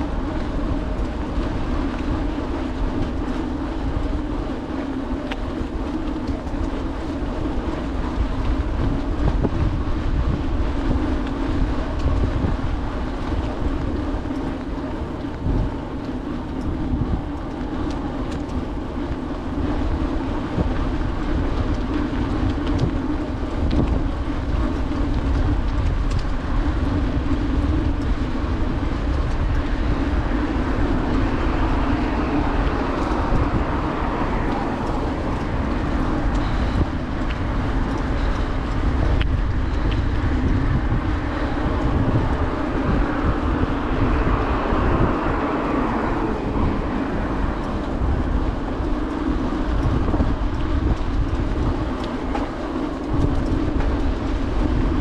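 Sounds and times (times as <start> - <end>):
bicycle tyres rolling: 0.0 - 55.0
wind buffeting microphone: 0.0 - 55.0.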